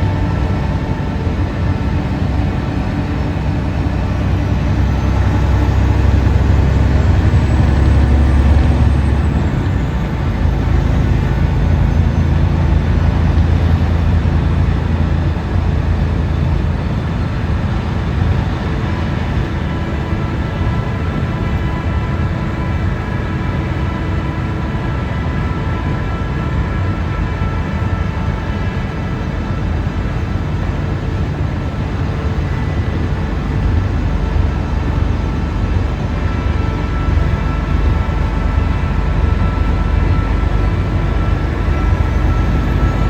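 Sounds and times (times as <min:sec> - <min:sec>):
truck engine drone: 0:00.0 - 0:43.0
tyre road noise: 0:00.0 - 0:43.0.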